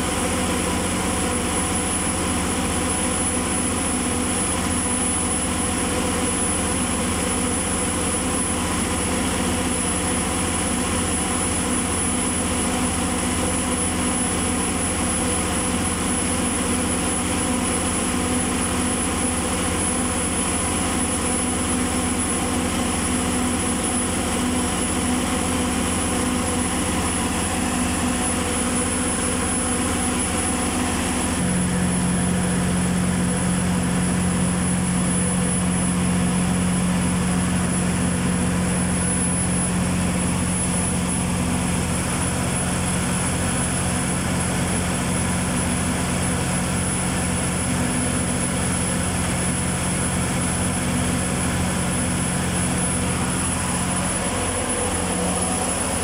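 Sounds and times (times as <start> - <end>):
diesel generator hum: 0.0 - 56.0
steady high whine: 0.0 - 56.0.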